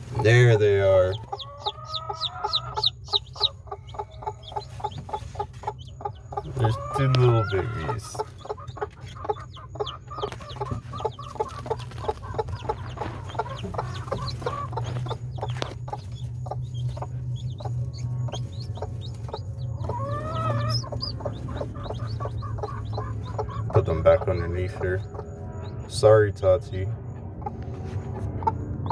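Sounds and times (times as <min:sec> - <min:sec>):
chicks peeping: 0:00.0 - 0:28.9
hen clucking: 0:00.0 - 0:28.9.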